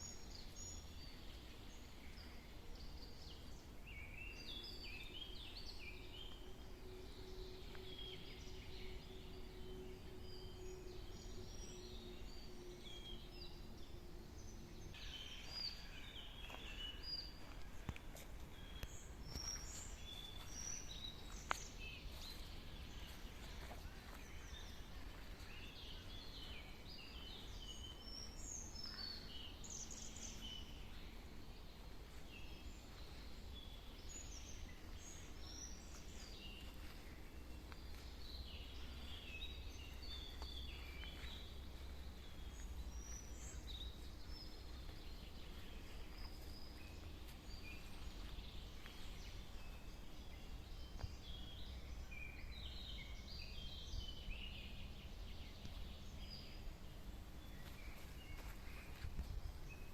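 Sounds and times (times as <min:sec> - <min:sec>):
birds singing and chirping: 0:00.0 - 0:59.9
faint low rumble: 0:00.0 - 0:59.9.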